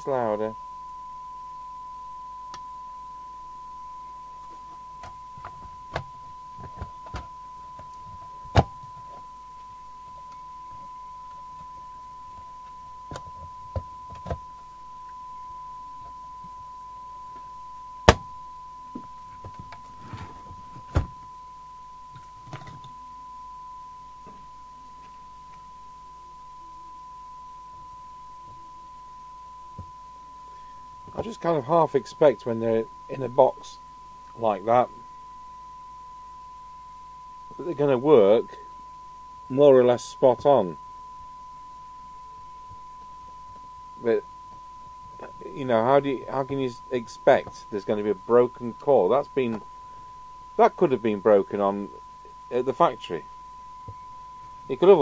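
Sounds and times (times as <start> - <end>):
steady test tone: 0.0 - 55.0.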